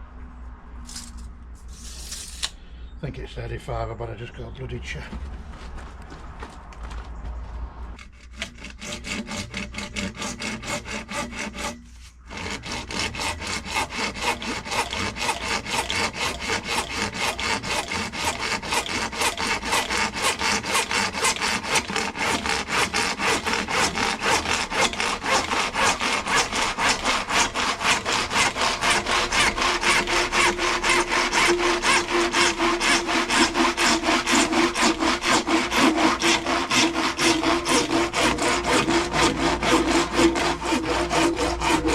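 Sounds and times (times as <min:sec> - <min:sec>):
hand saw cutting: 0:08.0 - 0:41.9.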